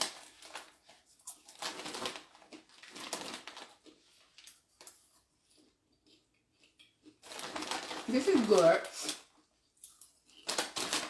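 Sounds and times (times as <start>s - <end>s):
popcorn crunching: 0.0s - 11.0s
snack bag rustling: 0.0s - 11.0s.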